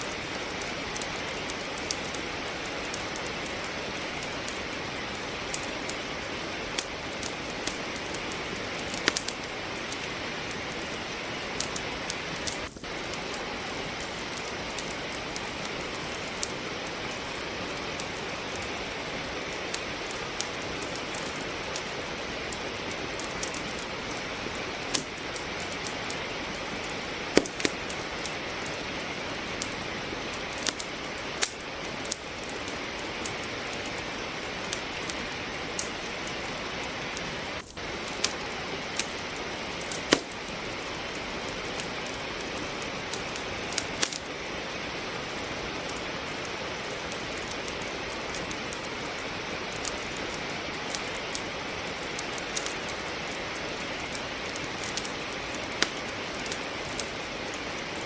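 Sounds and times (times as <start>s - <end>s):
steady rain hiss: 0.0s - 58.0s
wood fire crackling and popping: 0.0s - 58.0s.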